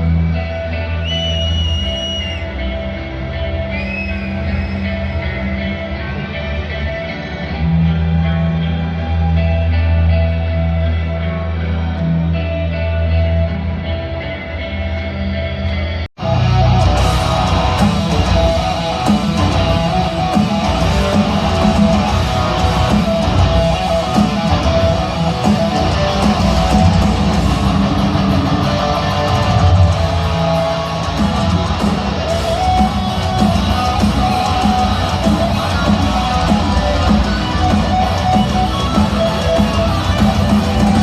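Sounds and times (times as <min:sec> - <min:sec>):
heavy metal band playing live: 0:00.0 - 0:41.0.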